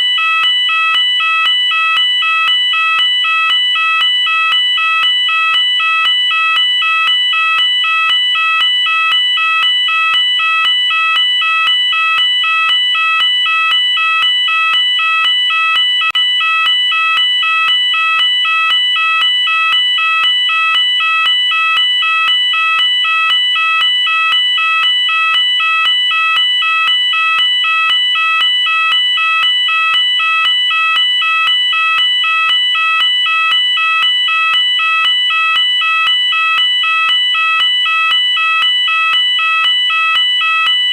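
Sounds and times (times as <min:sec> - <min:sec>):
fire alarm two-tone warble: 0:00.0 - 0:40.9.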